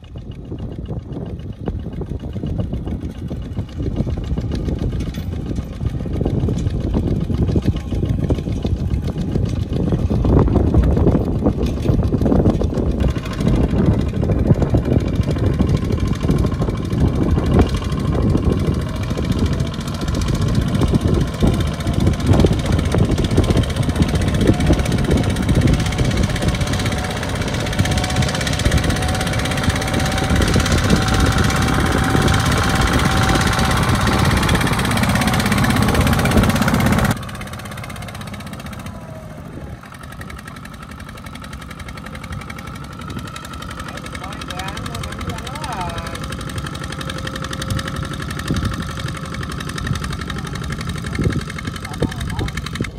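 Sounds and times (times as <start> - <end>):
diesel tractor engine chugging: 0.0 - 52.9.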